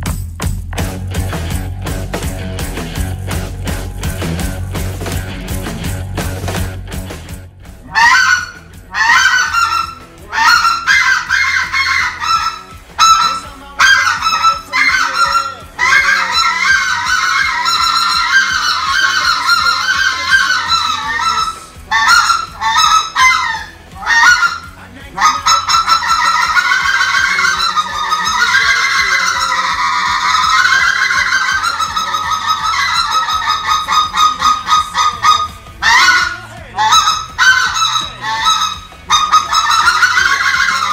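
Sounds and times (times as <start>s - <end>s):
goose call blown: 7.8s - 40.9s.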